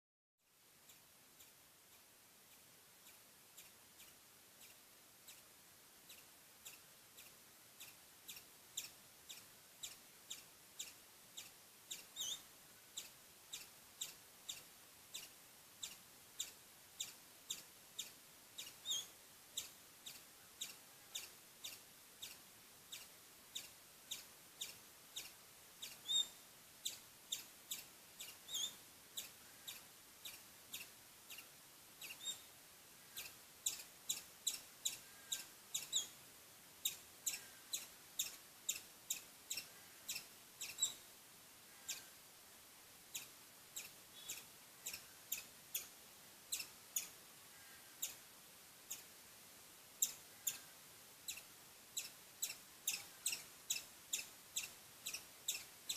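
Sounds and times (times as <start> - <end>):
squirrel chirping: 0.8 - 41.1, 41.7 - 42.2, 43.1 - 49.2, 49.9 - 55.9
squirrel long bending calls: 0.9 - 42.4, 43.0 - 55.9.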